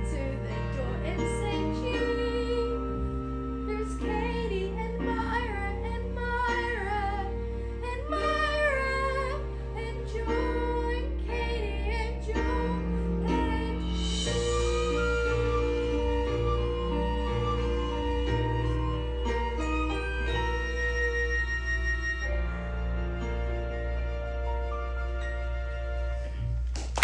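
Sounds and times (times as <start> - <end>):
instrumental backing track: 0.0 - 27.0.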